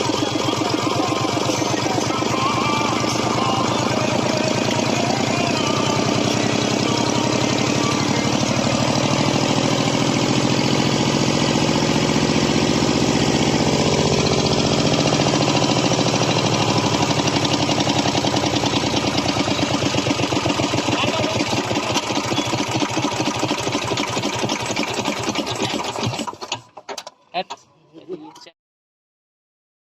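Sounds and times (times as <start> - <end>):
diesel engine knocking: 0.0 - 26.8.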